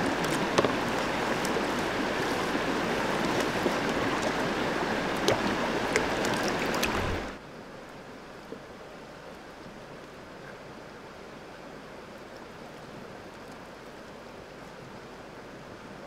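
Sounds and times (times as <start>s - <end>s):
creek water flowing: 0.0s - 16.0s.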